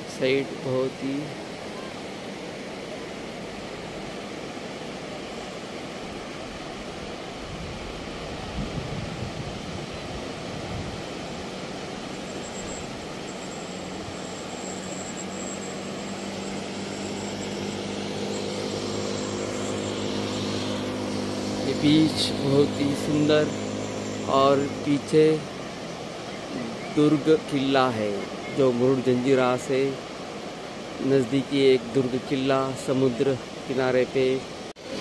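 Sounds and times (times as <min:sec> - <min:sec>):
motor droning hum: 0:00.0 - 0:33.7.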